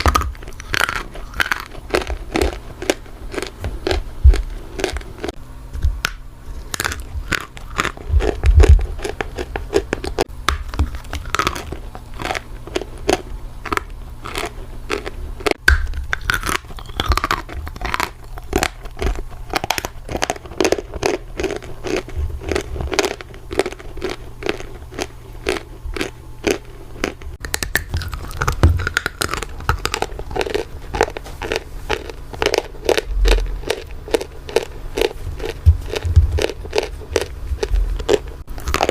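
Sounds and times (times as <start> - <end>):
clay being chewed crunching: 0.0 - 38.9.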